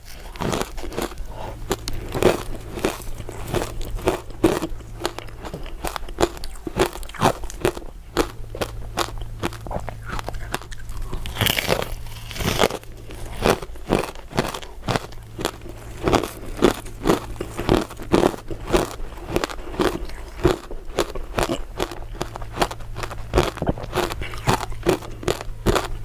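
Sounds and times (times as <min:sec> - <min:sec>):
crunchy dessert chewing: 0:00.0 - 0:26.0
faint low hum: 0:00.0 - 0:26.0.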